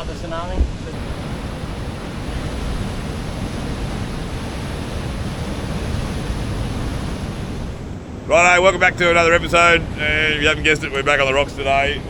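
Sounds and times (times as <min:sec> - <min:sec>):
deep rumble of surf: 0:00.0 - 0:12.0
surf breaking over rocks: 0:00.9 - 0:12.0.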